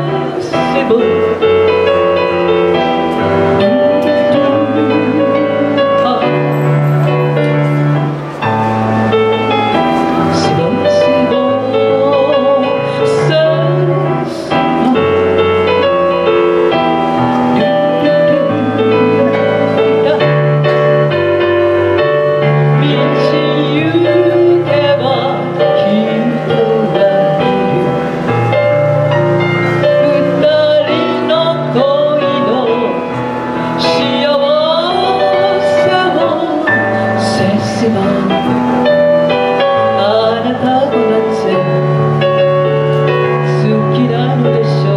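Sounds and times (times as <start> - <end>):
instrumental accompaniment: 0.0 - 44.9
woman singing with vibrato: 0.0 - 44.9.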